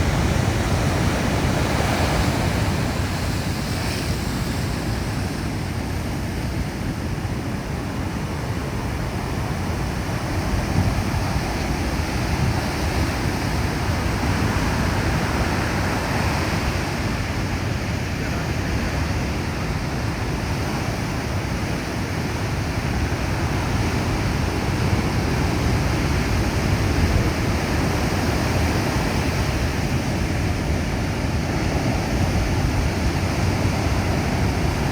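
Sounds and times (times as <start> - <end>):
heavy sea waves breaking: 0.0 - 34.9.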